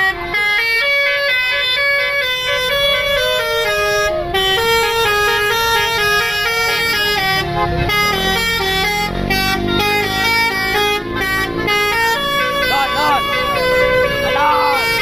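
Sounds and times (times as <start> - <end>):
musical bus air horn melody: 0.0 - 15.0.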